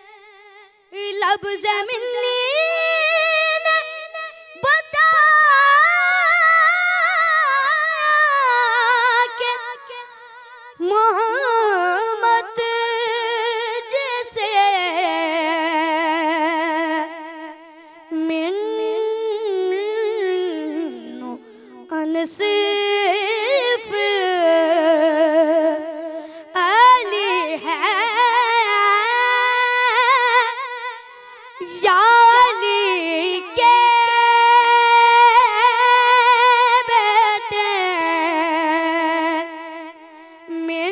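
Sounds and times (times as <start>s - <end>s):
boy singing unaccompanied: 0.0s - 40.9s.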